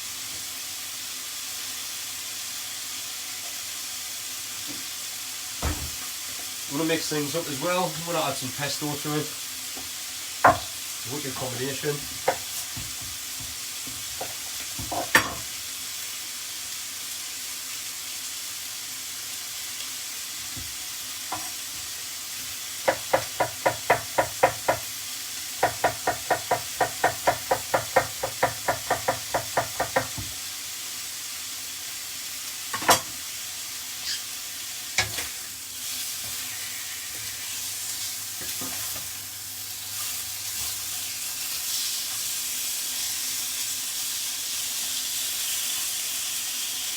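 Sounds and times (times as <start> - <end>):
chicken sizzling in a pan: 0.0 - 46.9.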